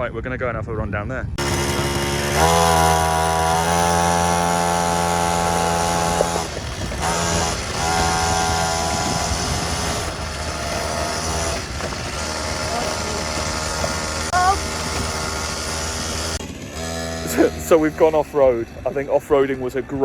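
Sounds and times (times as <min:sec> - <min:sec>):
quad bike engine running: 0:01.4 - 0:20.0.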